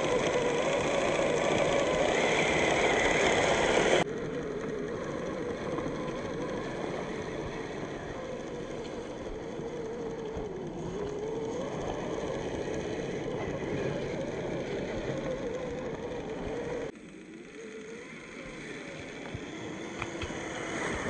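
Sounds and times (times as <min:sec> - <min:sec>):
electric motor and gearbox whining: 0:00.0 - 0:21.0.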